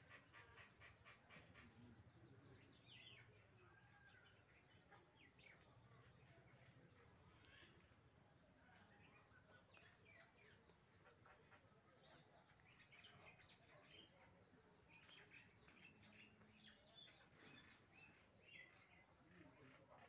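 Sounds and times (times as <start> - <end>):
faint bird chirping: 0.0 - 20.0.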